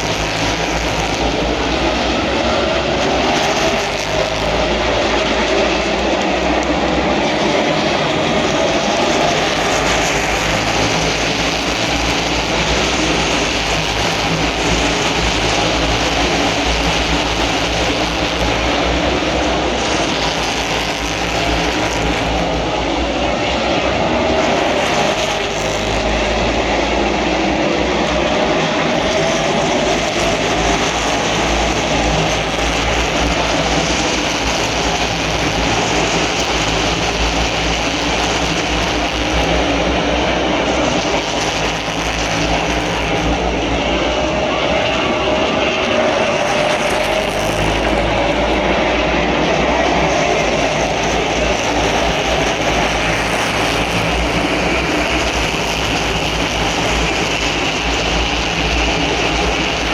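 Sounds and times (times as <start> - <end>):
race car engines roaring: 0.0 - 59.9.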